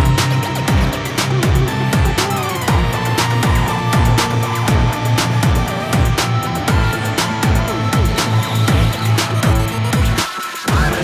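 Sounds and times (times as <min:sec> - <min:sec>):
deep kick drums: 0:00.0 - 0:11.0
held high electronic tone: 0:00.0 - 0:11.0.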